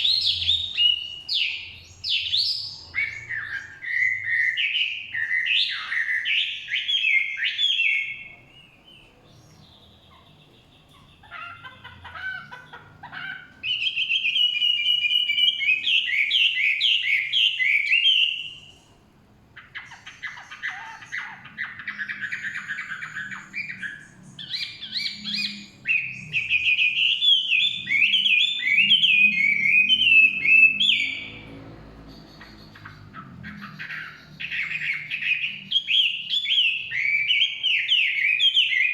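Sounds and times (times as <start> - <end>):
songbird whistling phrases: 0.0 - 19.0, 19.6 - 31.5, 32.1 - 38.9.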